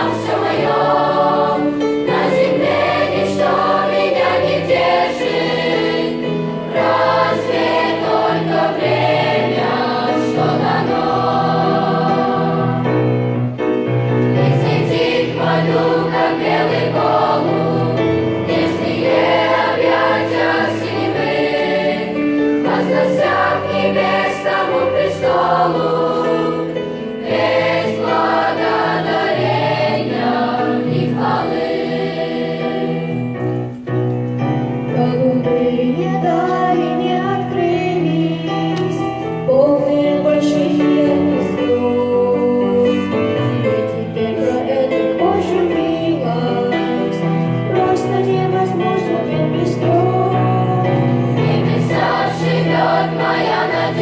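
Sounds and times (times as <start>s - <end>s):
children's choir singing: 0.0s - 13.2s, 14.2s - 33.8s, 39.8s - 54.0s
musical accompaniment: 0.0s - 54.0s.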